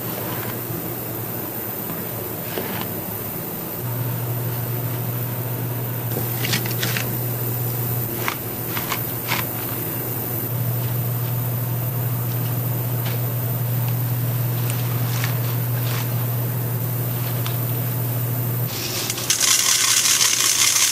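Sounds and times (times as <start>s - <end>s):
fan or motor hum: 0.0s - 20.9s.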